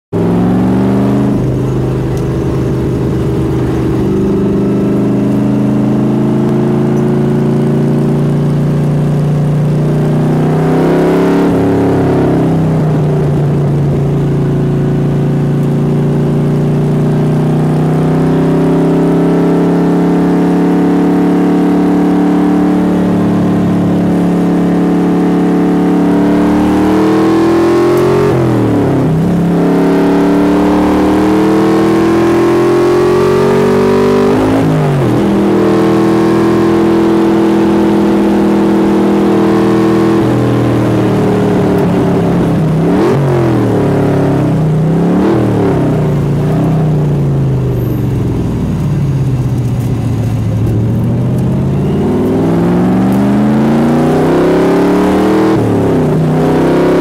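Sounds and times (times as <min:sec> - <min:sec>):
racing car engine at full throttle: 0:00.1 - 0:57.0.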